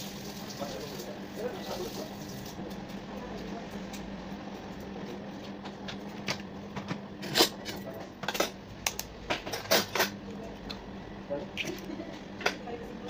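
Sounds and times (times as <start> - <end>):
steady low hum: 1.1 - 13.0.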